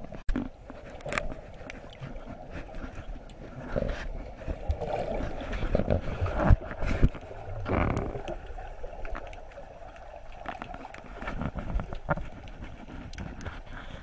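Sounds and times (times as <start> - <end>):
muffled water churning underwater: 0.0 - 14.0.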